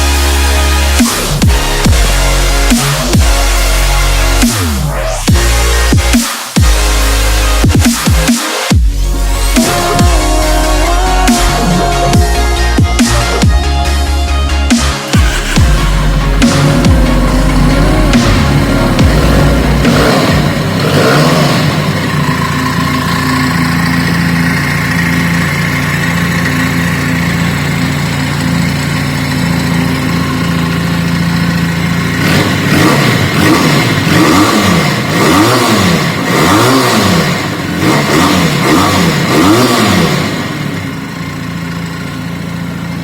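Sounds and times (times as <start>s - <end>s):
motorcycle engine idling and revving: 0.0s - 43.0s.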